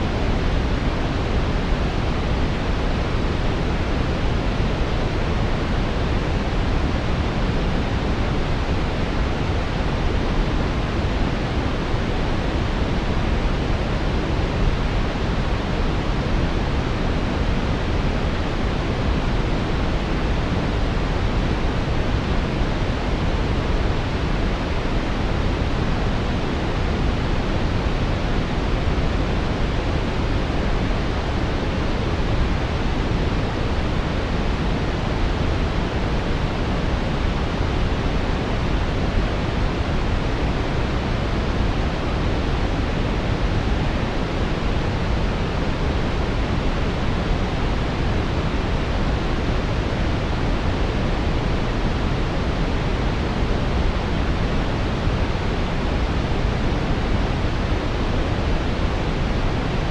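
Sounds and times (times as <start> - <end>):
brown noise rushing hiss: 0.0 - 59.9.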